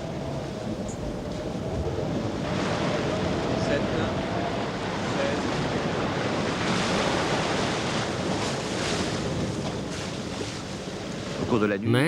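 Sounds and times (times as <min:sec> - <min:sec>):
waves: 0:00.0 - 0:12.0
wind: 0:00.0 - 0:12.0.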